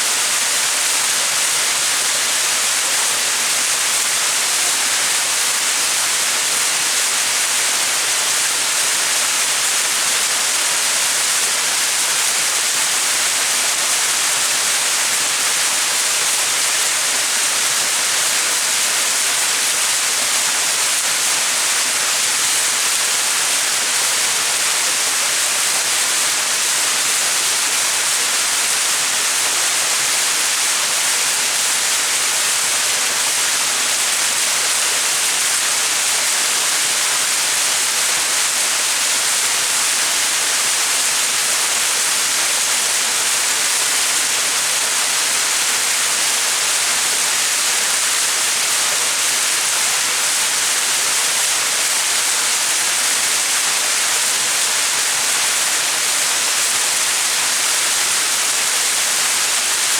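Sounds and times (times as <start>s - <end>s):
waterfall splashing: 0.2s - 59.9s.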